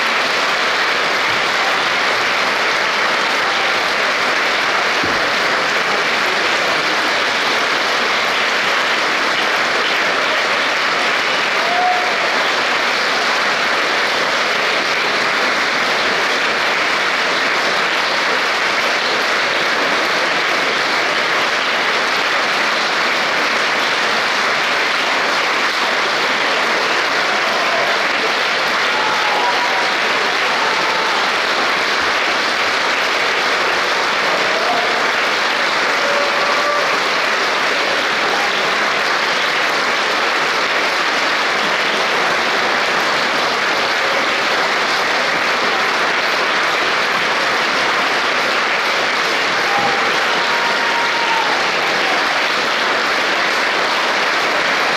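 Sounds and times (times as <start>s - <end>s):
audience applauding: 0.0s - 54.9s.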